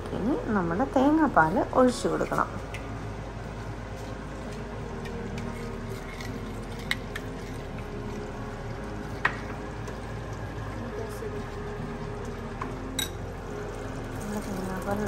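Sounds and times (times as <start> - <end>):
pan cooking on gas hob: 0.0 - 15.0.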